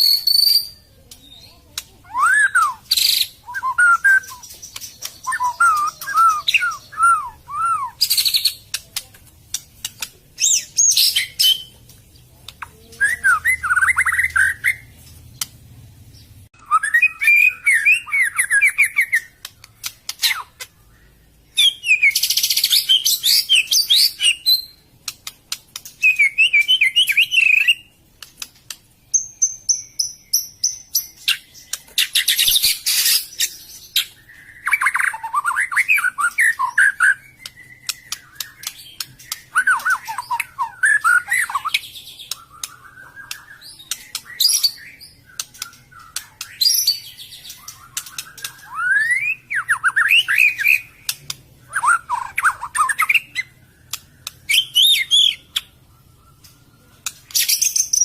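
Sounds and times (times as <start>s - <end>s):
sharp clicking bird notes: 0.0s - 15.7s, 17.1s - 20.9s, 22.1s - 58.0s
songbird singing: 0.0s - 58.0s.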